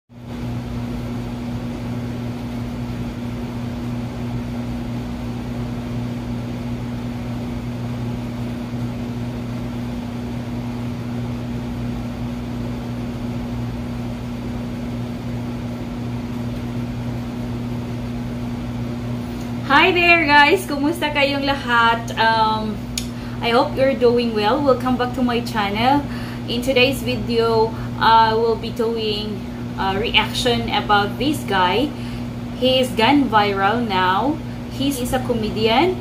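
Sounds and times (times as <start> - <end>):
electrical appliance hum: 0.1 - 36.0.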